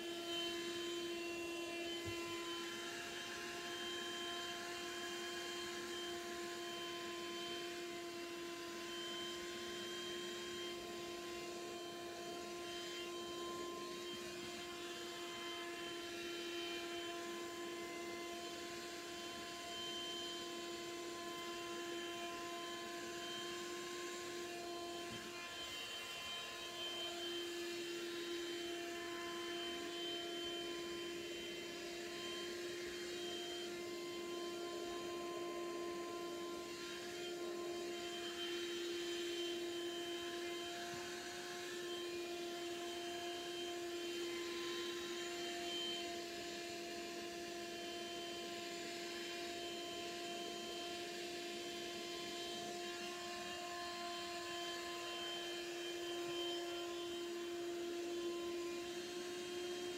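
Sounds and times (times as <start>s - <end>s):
vacuum cleaner whine: 0.0s - 59.9s.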